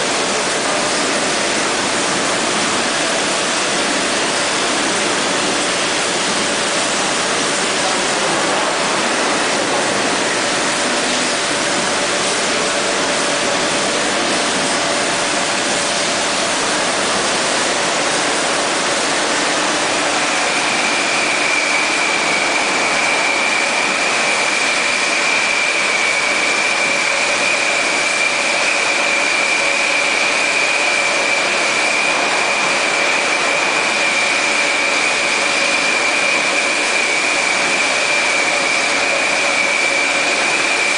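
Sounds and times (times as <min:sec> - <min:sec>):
bottling machinery running: 0:00.0 - 0:40.9
high steady whine: 0:00.0 - 0:40.9.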